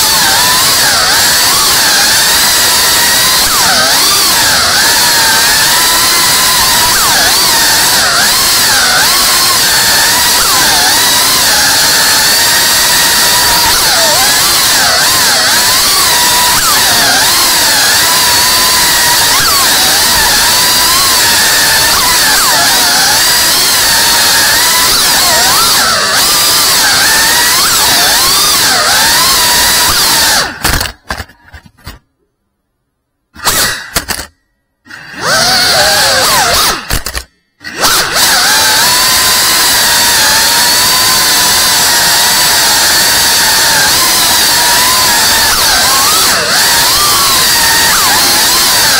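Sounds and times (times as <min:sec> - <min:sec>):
quadcopter motors whining: 0:00.0 - 0:31.3, 0:34.9 - 0:48.9.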